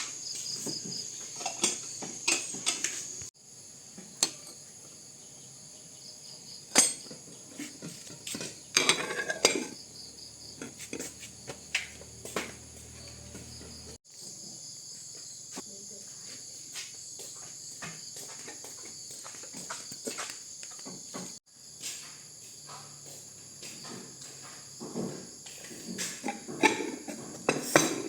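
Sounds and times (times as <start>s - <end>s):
insect chorus buzzing: 0.0s - 28.0s.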